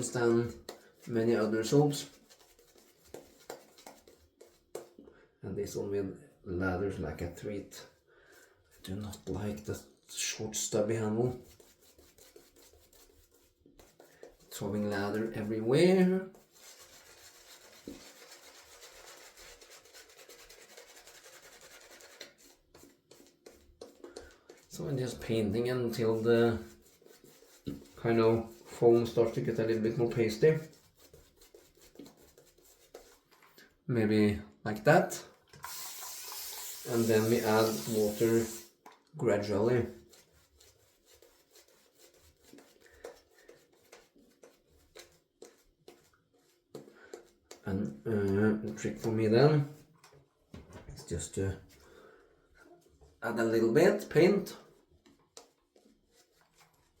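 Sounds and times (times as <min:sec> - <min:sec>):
shaving brush rubbing on face: 0:00.0 - 0:05.0, 0:08.7 - 0:33.5, 0:35.6 - 0:50.1, 0:52.7 - 0:57.0.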